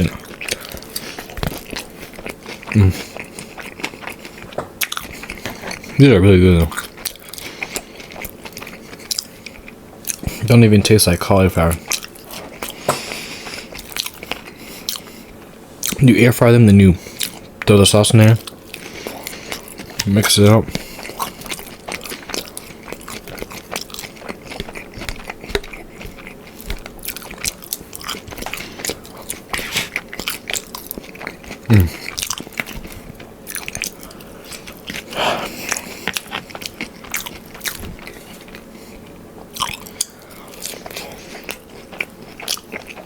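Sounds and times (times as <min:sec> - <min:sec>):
chewing crispy food: 0:00.0 - 0:43.0.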